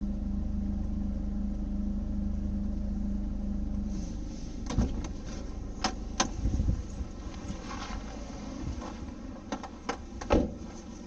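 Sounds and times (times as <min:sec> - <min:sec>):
rasping compressor noise: 0:00.0 - 0:09.3
car engine running: 0:00.0 - 0:11.0.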